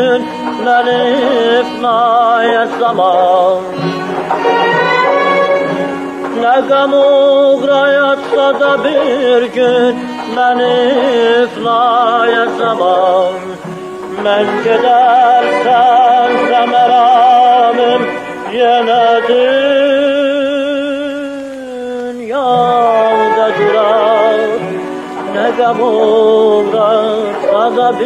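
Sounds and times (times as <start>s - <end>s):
man singing with vibrato: 0.0s - 28.0s.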